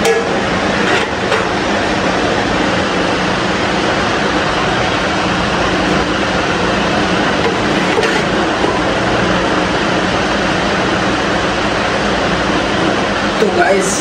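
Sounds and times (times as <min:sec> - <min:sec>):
cooling appliance whirring: 0:00.0 - 0:14.0.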